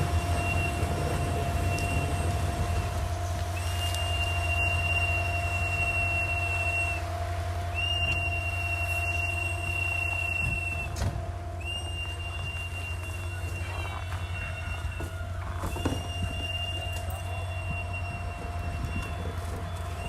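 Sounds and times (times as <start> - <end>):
car horn blaring: 0.0 - 20.0
idling traffic rumble: 0.0 - 20.0
shrill horn tone: 0.0 - 20.0.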